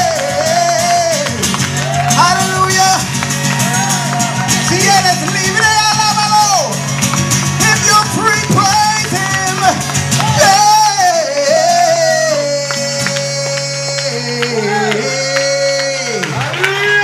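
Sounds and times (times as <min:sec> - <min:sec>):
man singing: 0:00.0 - 0:06.9, 0:07.6 - 0:17.0
guitar accompaniment: 0:00.0 - 0:17.0.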